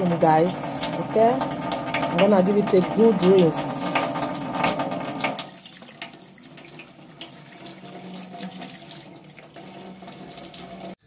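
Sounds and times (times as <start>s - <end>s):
tap water splashing into a sink: 0.0s - 11.0s.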